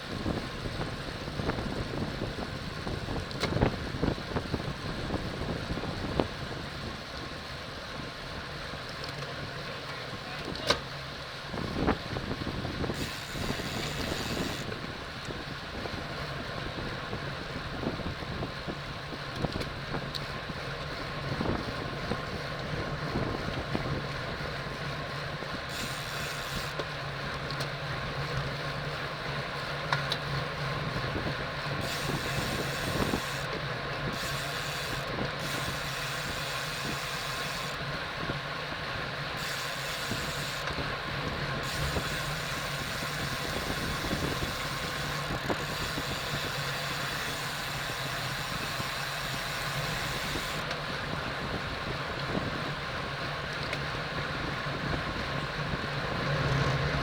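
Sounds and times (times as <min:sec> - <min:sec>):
wind rush on microphone: 0:00.0 - 0:08.5, 0:11.5 - 0:24.7, 0:30.8 - 0:57.0
bicycle tyre and road noise: 0:00.0 - 0:57.0.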